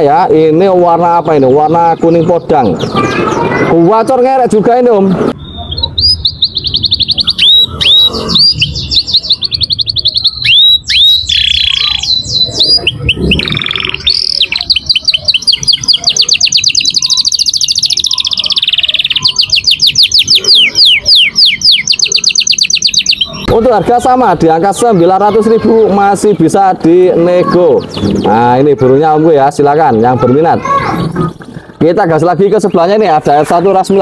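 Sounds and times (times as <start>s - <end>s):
canary singing trills: 0.0s - 4.5s, 5.3s - 34.0s.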